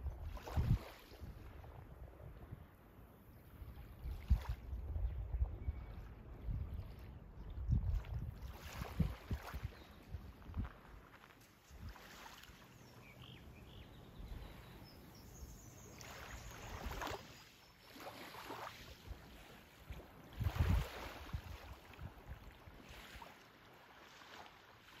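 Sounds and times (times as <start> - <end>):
wind rumbling on microphone: 0.0 - 12.5, 13.6 - 17.3, 18.8 - 23.3
small waves lapping on sand: 0.0 - 25.0.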